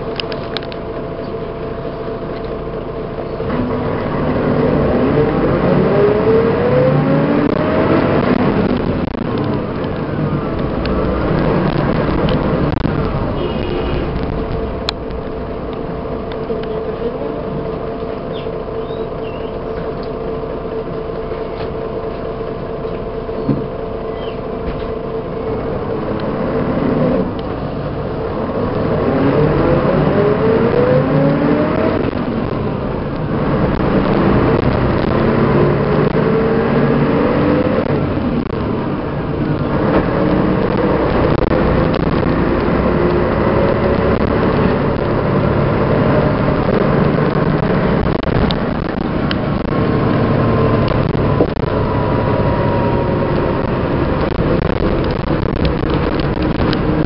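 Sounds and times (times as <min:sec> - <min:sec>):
bus diesel engine accelerating: 0:00.0 - 0:57.0.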